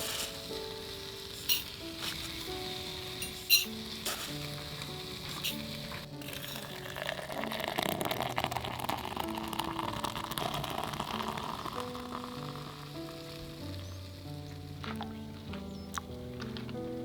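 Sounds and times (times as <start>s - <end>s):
food sizzling in a pan: 0.0s - 15.3s
soft background music: 0.0s - 17.0s.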